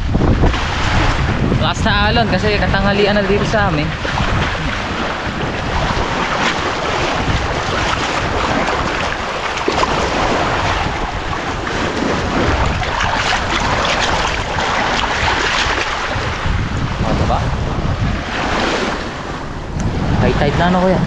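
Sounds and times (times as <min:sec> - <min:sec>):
lake waves washing against shore: 0:00.0 - 0:21.0
wind buffeting microphone: 0:00.0 - 0:21.0
water splashing: 0:00.3 - 0:20.5.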